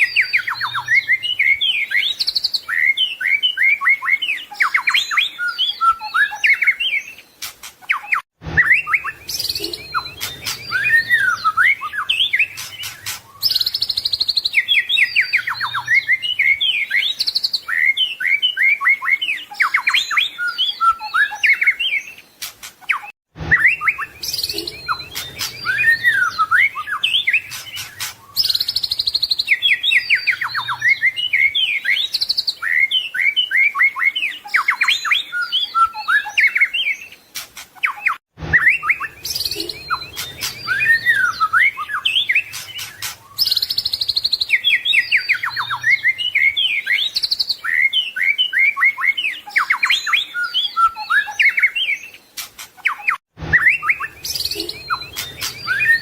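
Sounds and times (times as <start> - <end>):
bird singing varied whistles and trills: 0.0 - 56.0.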